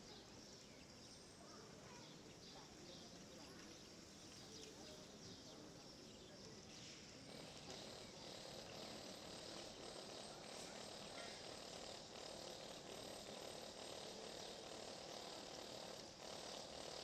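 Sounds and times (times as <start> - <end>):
low steady background hum: 0.0 - 17.0.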